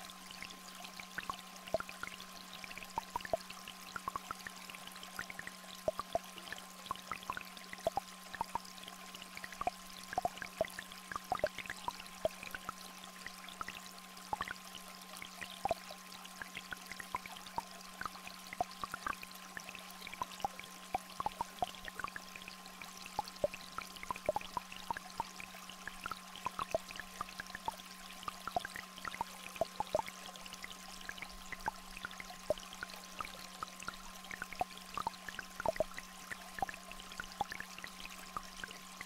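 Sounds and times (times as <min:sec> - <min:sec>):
stream trickling: 0:00.0 - 0:39.0.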